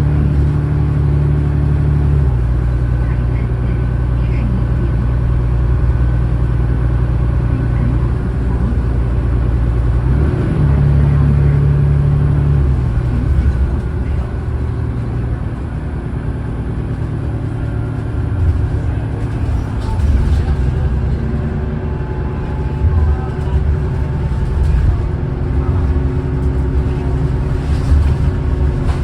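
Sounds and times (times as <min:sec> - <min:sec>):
bus diesel engine under load: 0:00.0 - 0:29.0.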